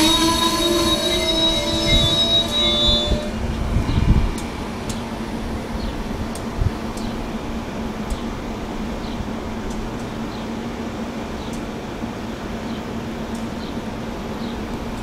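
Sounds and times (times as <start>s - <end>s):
train cars rumbling past: 0.0s - 15.0s.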